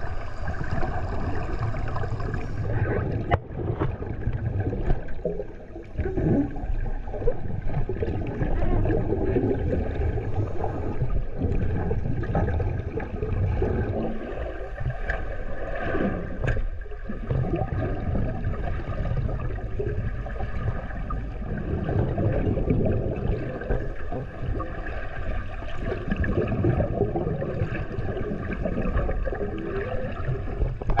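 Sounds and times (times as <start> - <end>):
muffled underwater churning: 0.0 - 31.0.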